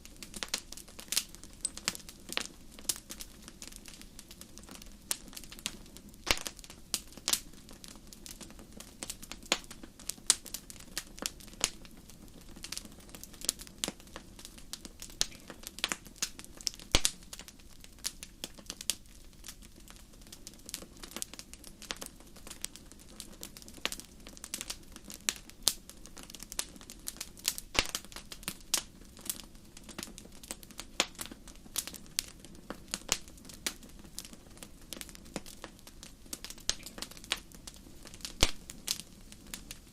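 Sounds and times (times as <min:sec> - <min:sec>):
flames rumbling: 0:00.0 - 0:39.9
wood fire crackling and popping: 0:00.0 - 0:39.9.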